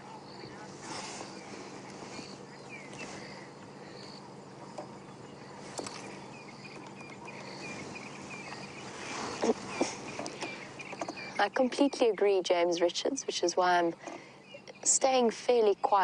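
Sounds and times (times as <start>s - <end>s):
lower insect chirping: 0.0s - 13.8s
insects chirping in pulses: 0.0s - 15.3s
low steady hum: 0.0s - 16.0s.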